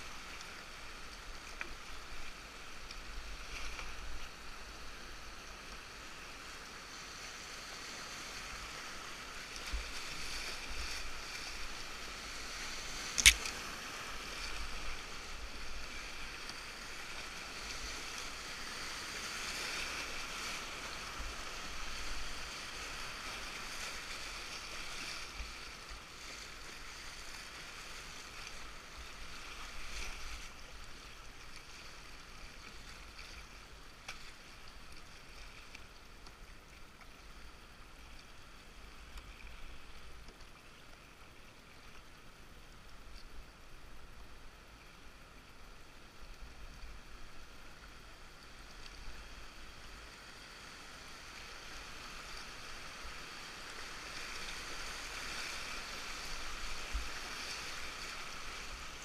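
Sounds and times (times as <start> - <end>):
river water rushing: 0.0 - 35.6, 47.0 - 59.0.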